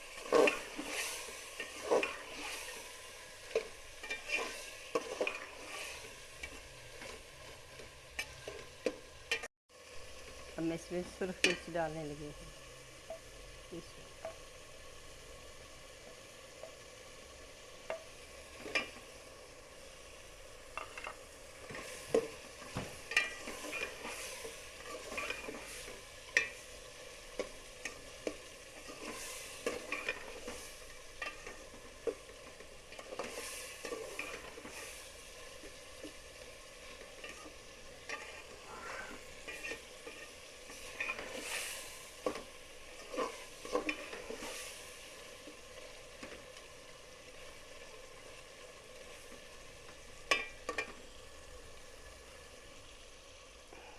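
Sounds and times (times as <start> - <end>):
food sizzling in a pot: 0.0 - 53.9.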